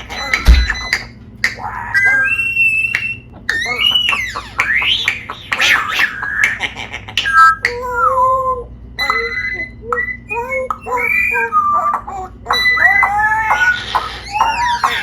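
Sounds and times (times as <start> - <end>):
parrot whistling and squawking: 0.0 - 8.4, 9.0 - 15.0.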